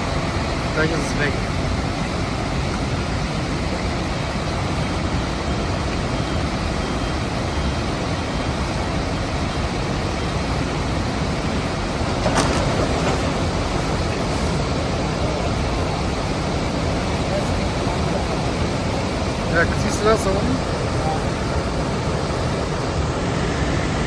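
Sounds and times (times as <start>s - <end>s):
water rushing through weir: 0.0s - 24.0s.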